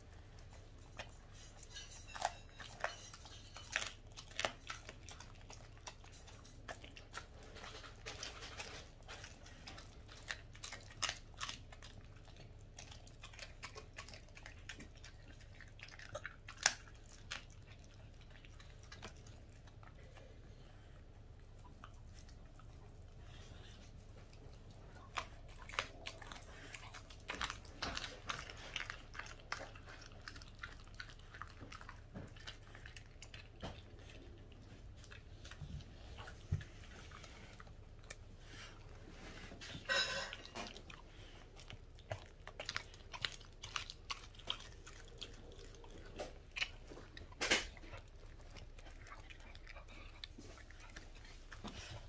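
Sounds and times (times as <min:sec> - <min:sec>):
dog chewing and crunching bones: 0:00.0 - 0:52.0.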